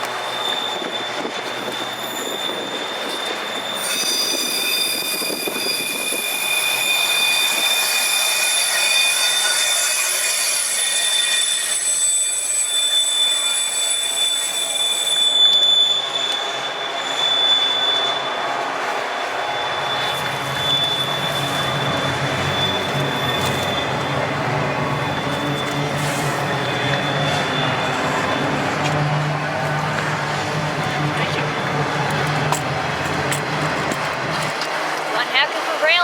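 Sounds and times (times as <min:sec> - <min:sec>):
train wheels squealing on rails: 0:00.0 - 0:36.0.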